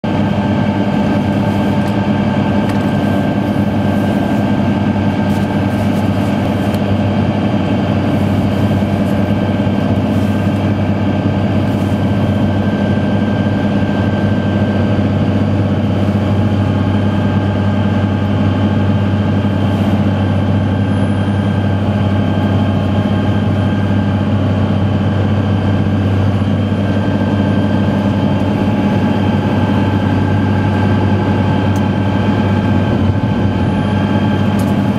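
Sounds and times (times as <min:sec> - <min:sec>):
steady high whine: 0:00.0 - 0:34.9
tractor diesel engine drone: 0:00.0 - 0:34.9.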